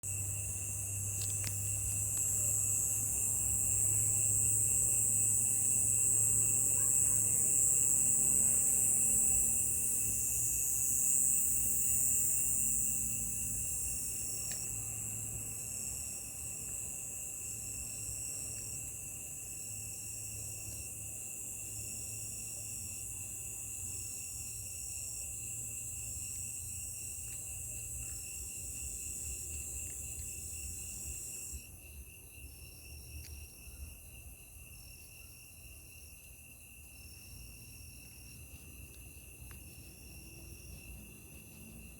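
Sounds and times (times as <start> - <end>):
steady high insect trill: 0.0 - 41.9.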